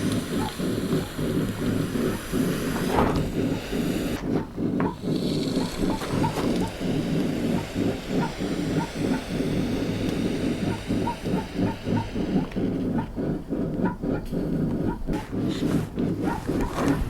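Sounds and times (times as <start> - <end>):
forge roaring: 0.0 - 17.0.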